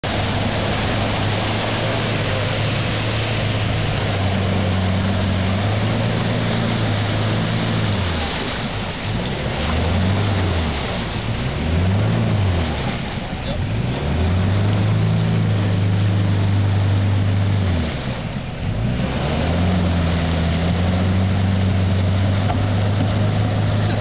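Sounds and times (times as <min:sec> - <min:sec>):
churning muddy water: 0:00.0 - 0:24.0
truck engine revving under load: 0:00.0 - 0:24.0.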